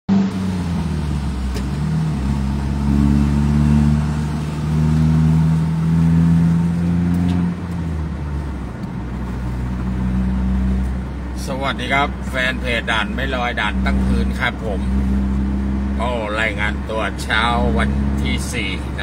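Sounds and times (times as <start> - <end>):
car engine inside cabin: 0.1 - 19.0
road noise: 0.1 - 19.0.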